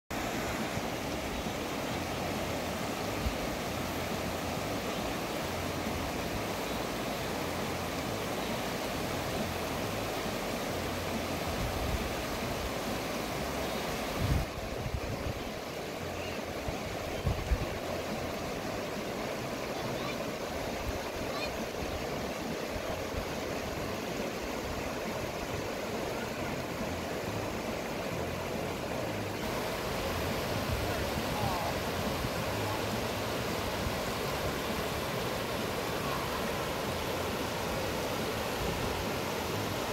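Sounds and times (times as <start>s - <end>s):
river rushing over rocks: 0.1s - 39.9s.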